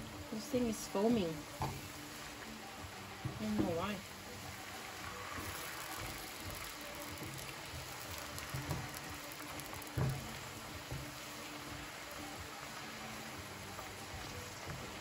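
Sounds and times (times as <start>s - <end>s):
potatoes sizzling in oil: 0.0s - 15.0s.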